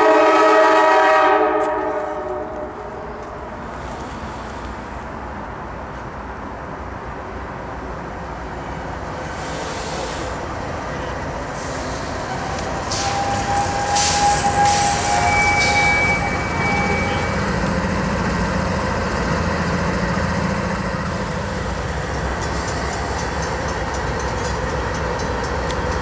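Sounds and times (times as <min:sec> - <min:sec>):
diesel locomotive engines rumbling: 0:00.0 - 0:26.0.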